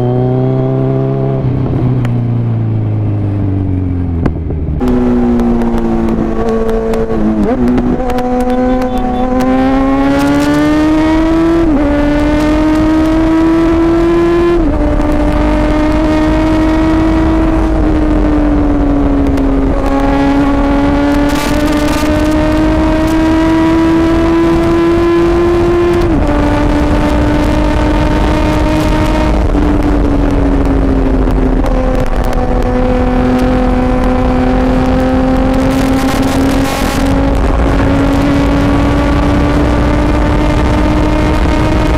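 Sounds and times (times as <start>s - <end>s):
motorcycle engine shifting gears: 0.0s - 41.9s.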